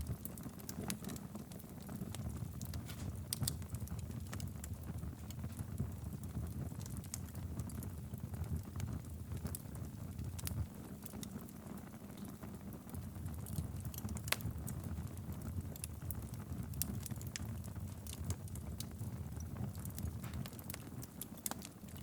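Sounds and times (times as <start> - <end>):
fire crackles and pops: 0.0 - 22.0
low rumble of flames: 0.0 - 22.0.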